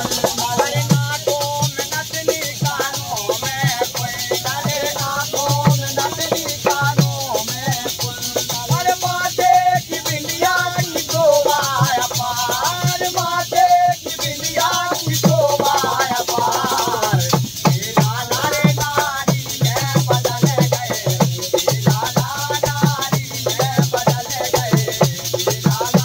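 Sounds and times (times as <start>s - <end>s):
man singing: 0.0s - 26.0s
rattling shaker percussion: 0.0s - 26.0s.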